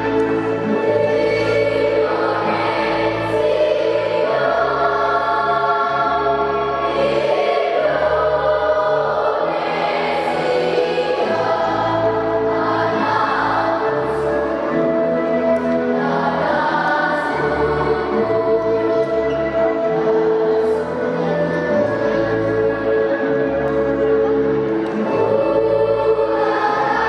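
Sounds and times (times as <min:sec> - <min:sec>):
children's choir singing: 0:00.0 - 0:27.0
low musical accompaniment: 0:00.0 - 0:27.0.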